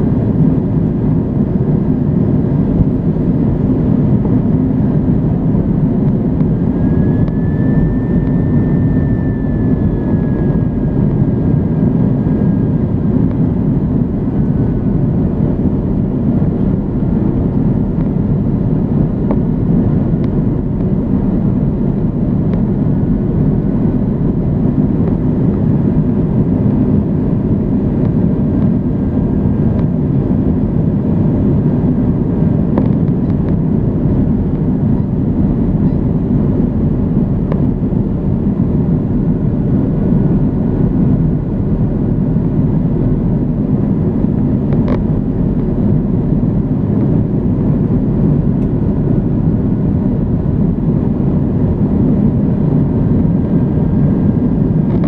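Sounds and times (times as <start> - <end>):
engine rumble and rushing air: 0.0 - 55.0
faint steady whine: 0.0 - 55.0.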